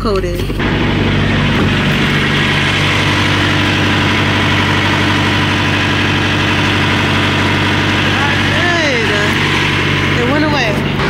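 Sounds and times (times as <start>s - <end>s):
diesel engine running steadily: 0.5s - 11.0s.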